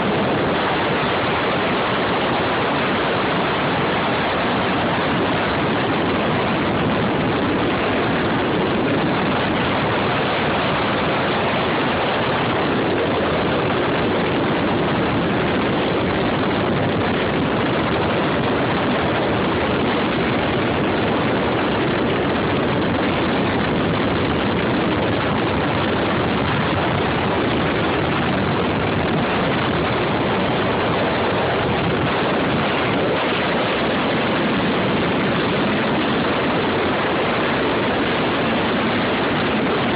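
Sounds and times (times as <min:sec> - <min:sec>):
jet ski engine: 0:00.0 - 0:39.9
rushing water: 0:00.0 - 0:39.9.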